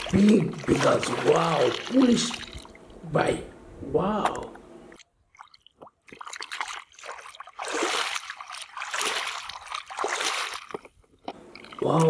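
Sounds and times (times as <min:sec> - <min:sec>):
water splashing and trickling: 0:00.0 - 0:03.0, 0:04.9 - 0:12.0.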